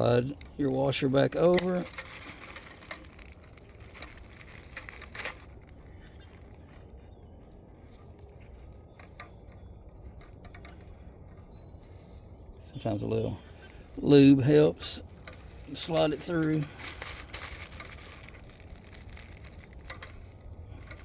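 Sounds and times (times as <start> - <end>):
light handling clicks and rustles: 0.0 - 21.0
low steady hum: 0.0 - 21.0.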